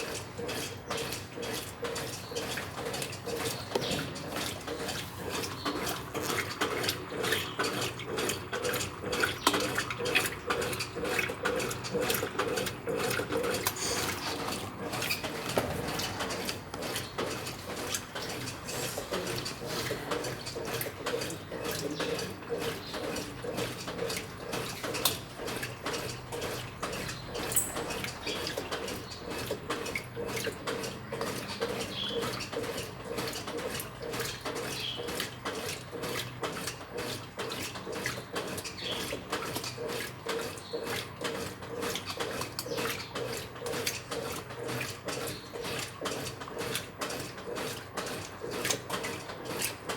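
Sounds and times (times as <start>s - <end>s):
water sloshing in washing machine: 0.0s - 49.9s.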